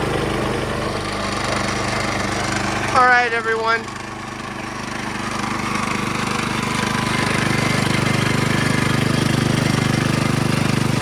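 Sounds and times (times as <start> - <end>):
small engine running fast: 0.0 - 11.0.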